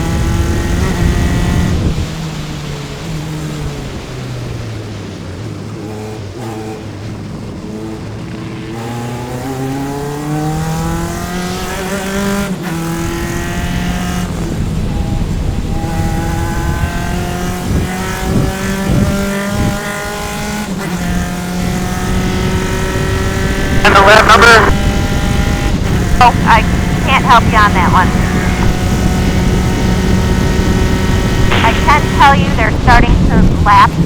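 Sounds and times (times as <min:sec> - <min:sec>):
race car engine accelerating: 0:00.0 - 0:34.0.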